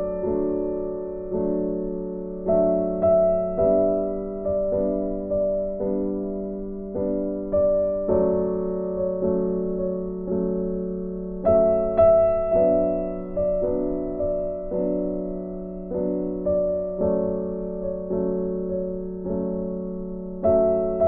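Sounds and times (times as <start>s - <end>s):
slow keyboard chords: 0.0s - 21.0s.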